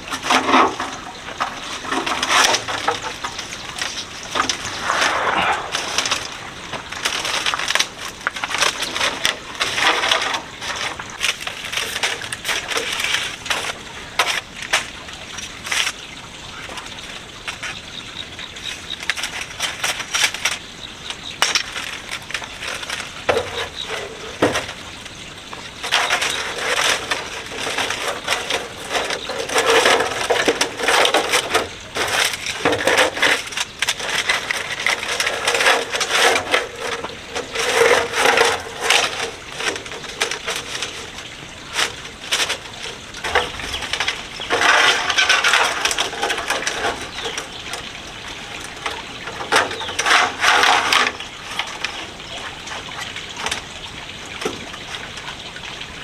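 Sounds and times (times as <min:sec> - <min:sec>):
dry wood crackling and snapping: 0:00.0 - 0:56.0.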